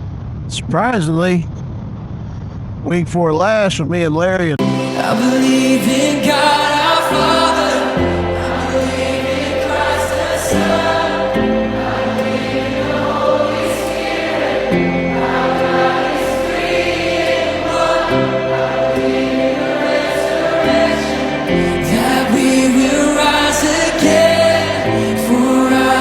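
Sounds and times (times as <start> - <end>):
gospel choir singing: 4.6 - 26.0.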